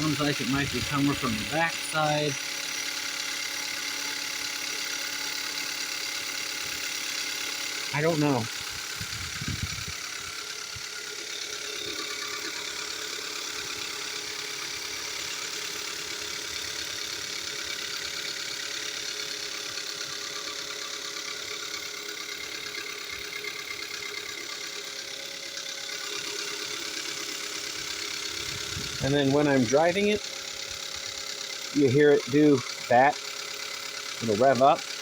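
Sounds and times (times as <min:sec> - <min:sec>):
car engine idling: 0:00.0 - 0:35.0
engine ticking: 0:00.0 - 0:35.0.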